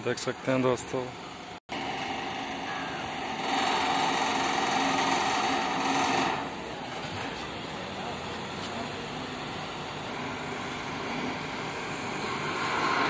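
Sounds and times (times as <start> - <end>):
diesel crane engine running: 0.0 - 13.0.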